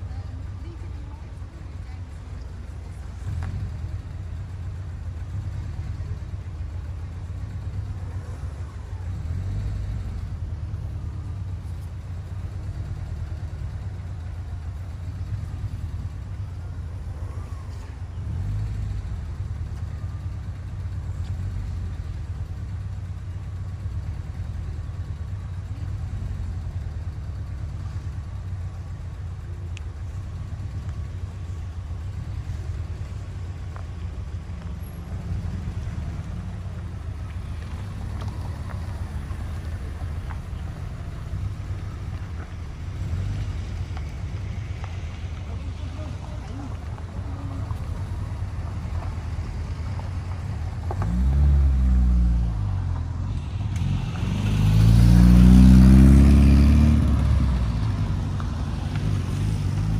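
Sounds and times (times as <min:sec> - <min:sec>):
car engines running: 0:00.0 - 0:59.9.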